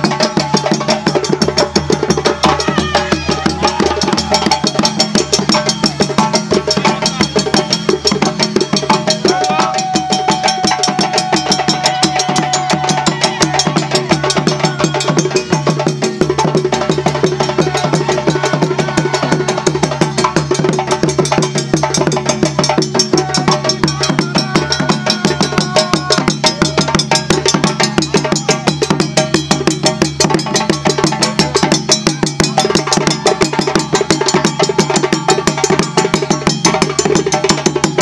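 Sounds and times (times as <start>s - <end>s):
hand drums and bass drum: 0.0s - 38.0s.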